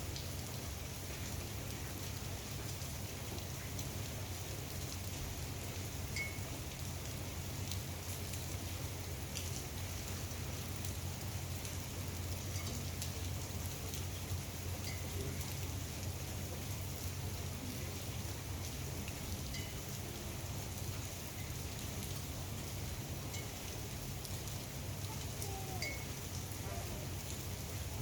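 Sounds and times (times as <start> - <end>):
rain falling on water: 0.0 - 28.0.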